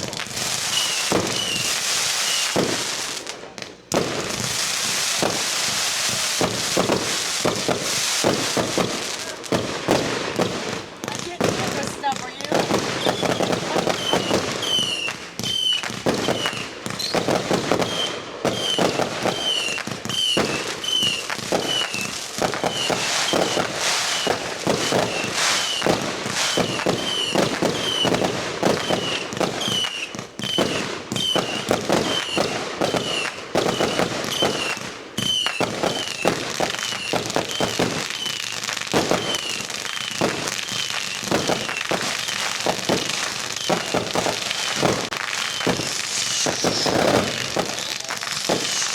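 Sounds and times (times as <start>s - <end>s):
fireworks popping and crackling: 0.0s - 48.9s.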